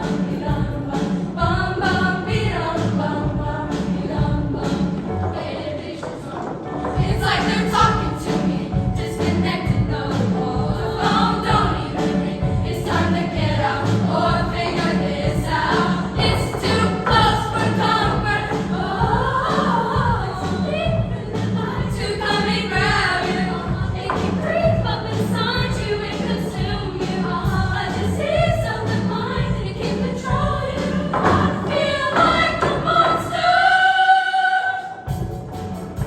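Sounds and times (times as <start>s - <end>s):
girls' choir singing: 0.0s - 35.2s.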